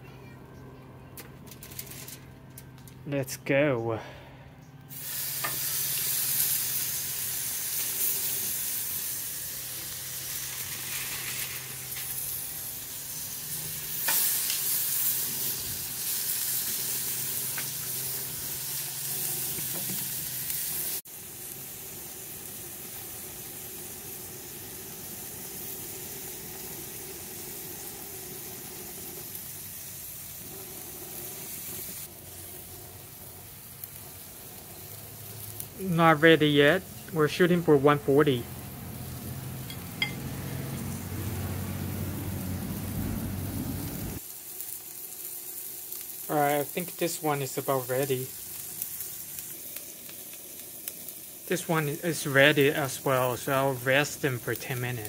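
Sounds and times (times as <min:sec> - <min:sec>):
steaks sizzling on grill: 0:04.9 - 0:55.0.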